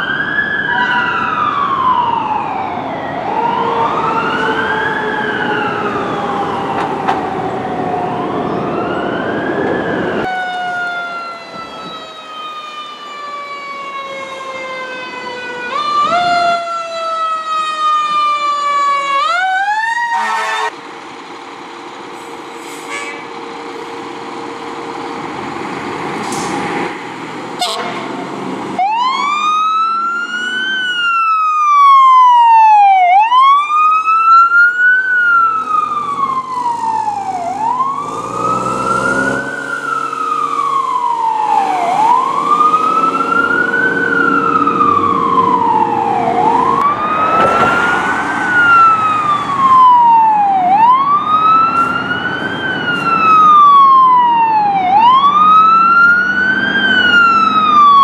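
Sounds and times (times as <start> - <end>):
fire truck siren wailing: 0.0 - 20.9, 21.8 - 58.0.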